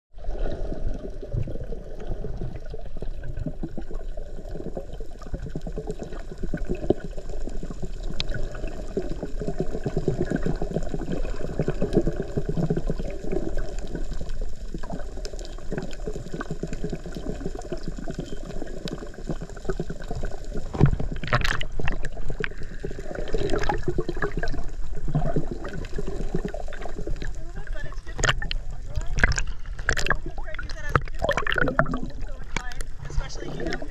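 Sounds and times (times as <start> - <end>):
water bubbling and gurgling: 0.1 - 33.9.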